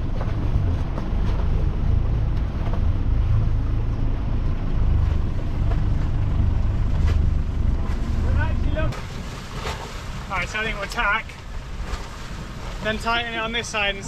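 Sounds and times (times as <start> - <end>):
water washing along hull: 0.0 - 14.0
wind rumble on microphone: 0.0 - 14.0.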